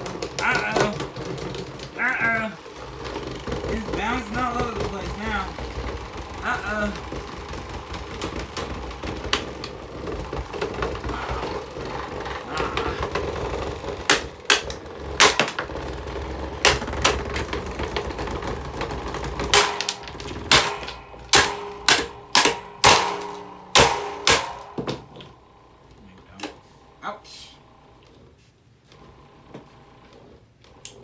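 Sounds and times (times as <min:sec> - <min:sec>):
sharp knocks: 0:00.0 - 0:25.4
fan blades rattling: 0:00.0 - 0:27.8
fan motor humming: 0:00.0 - 0:31.0.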